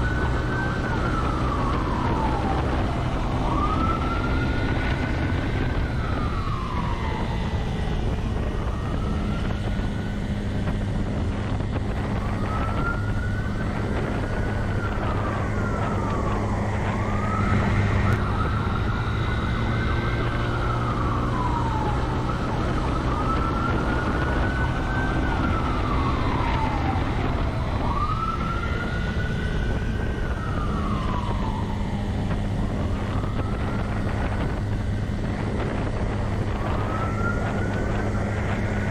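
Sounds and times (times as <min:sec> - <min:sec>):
police siren wailing: 0:00.0 - 0:38.9
road noise: 0:00.0 - 0:38.9
vehicle engine drone: 0:00.0 - 0:38.9.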